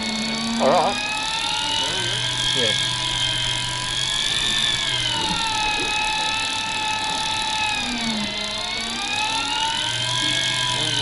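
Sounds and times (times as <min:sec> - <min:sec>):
electric fishing reel motor whine: 0:00.0 - 0:11.0.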